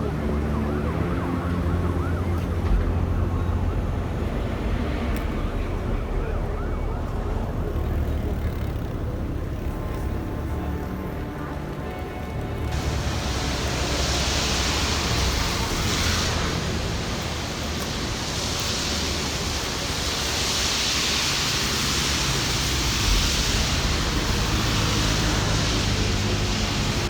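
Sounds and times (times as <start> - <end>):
heavy rain hissing: 0.1 - 27.0.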